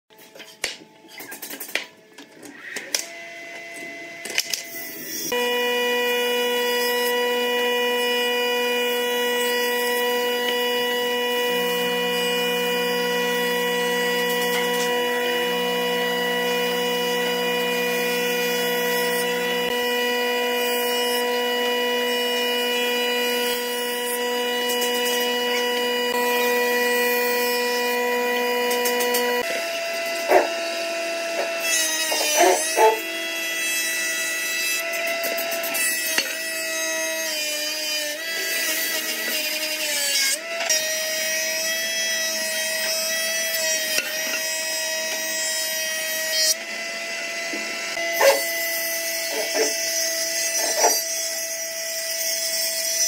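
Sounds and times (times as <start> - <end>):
jointer running with whine: 2.1 - 53.0.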